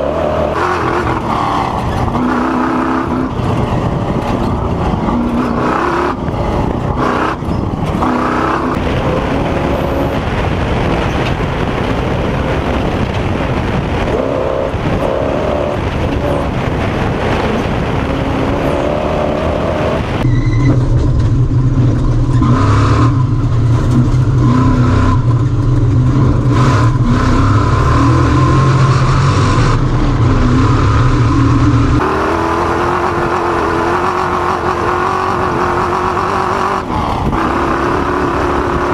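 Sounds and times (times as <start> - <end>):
heavy deep drone: 0.0 - 38.9
race vehicle engine revving: 0.0 - 38.9.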